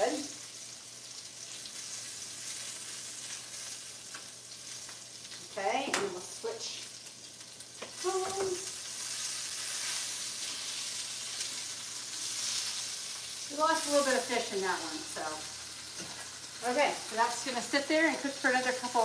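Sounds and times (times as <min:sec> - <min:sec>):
fish sizzling in a pan: 0:00.0 - 0:19.0.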